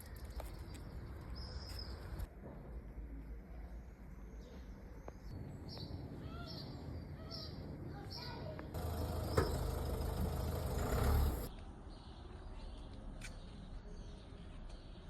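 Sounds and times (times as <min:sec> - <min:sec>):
faint street background: 0:00.0 - 0:15.0.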